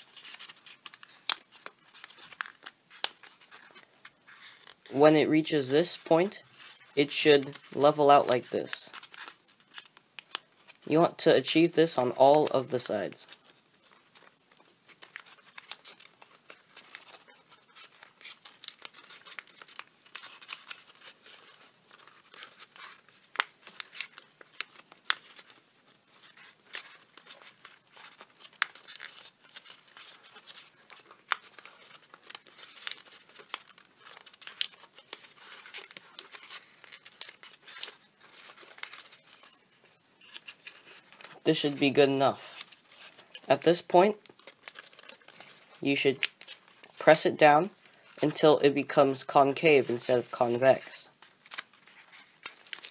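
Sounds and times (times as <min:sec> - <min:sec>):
paper crinkling and crackling: 0:00.0 - 0:52.9.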